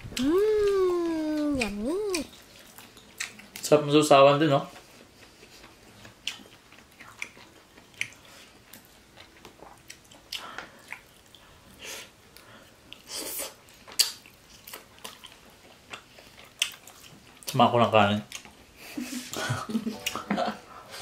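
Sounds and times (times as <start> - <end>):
people chewing and biting: 0.0 - 3.8, 4.6 - 17.6, 18.2 - 20.2.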